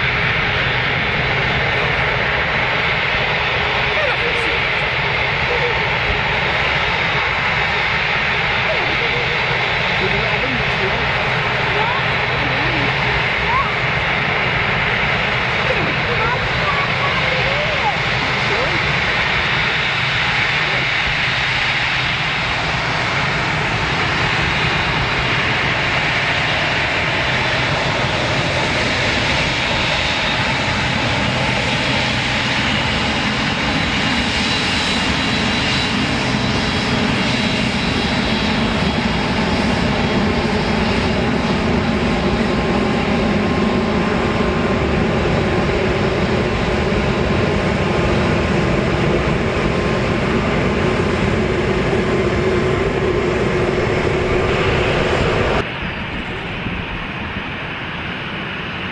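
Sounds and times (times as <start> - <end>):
airliner engines running: 0.0 - 58.9.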